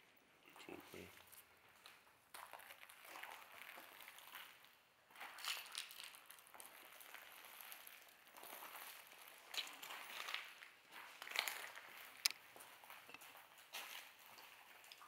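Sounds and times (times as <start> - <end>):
footsteps crunching over debris: 1.0 - 15.0.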